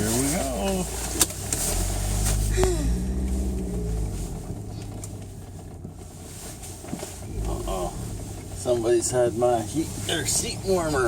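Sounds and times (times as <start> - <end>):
car engine starting and idling: 0.0 - 11.0.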